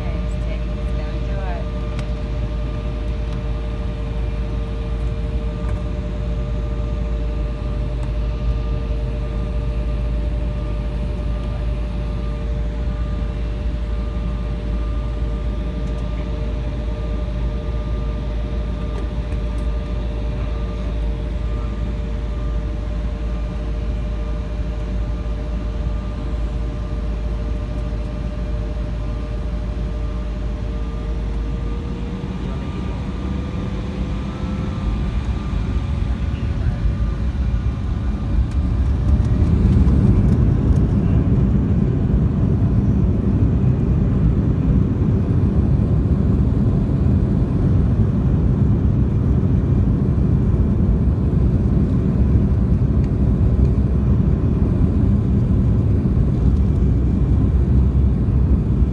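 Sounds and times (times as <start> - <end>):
jet cabin engine drone: 0.0 - 58.9.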